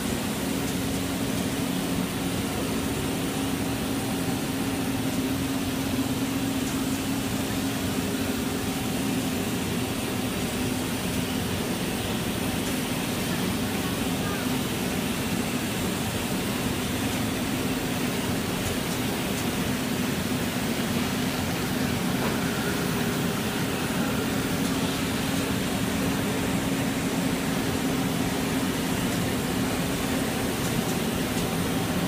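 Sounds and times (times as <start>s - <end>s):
extrusion machinery hum: 0.0s - 32.0s.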